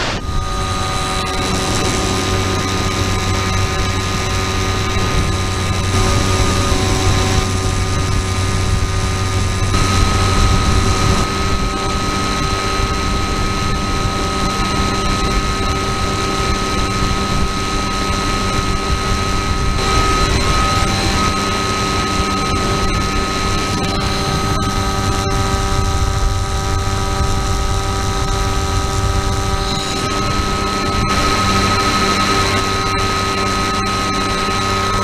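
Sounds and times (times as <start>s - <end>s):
electric motor and propeller whining: 0.0s - 35.0s
rushing wind: 0.0s - 35.0s.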